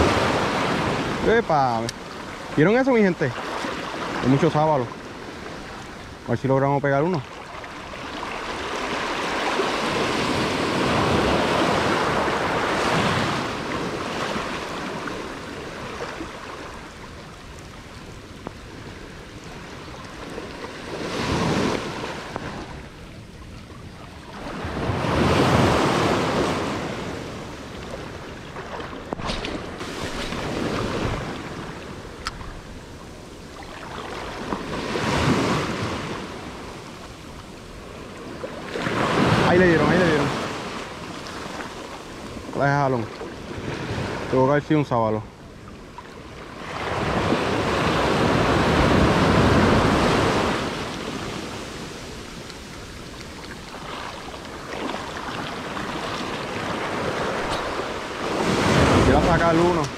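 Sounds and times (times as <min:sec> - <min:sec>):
small waves washing onto beach: 0:00.0 - 0:59.9.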